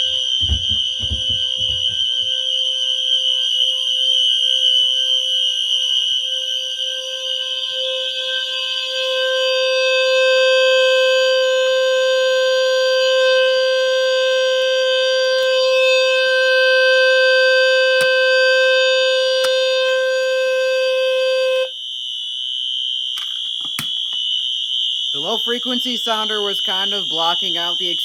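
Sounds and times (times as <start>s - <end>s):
shrill fire alarm horns: 0.0s - 28.0s.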